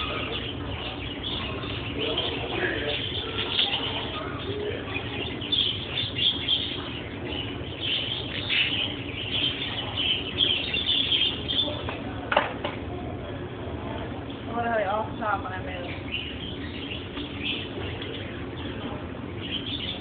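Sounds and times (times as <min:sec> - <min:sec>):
birds chirping and twittering: 0:00.0 - 0:20.0.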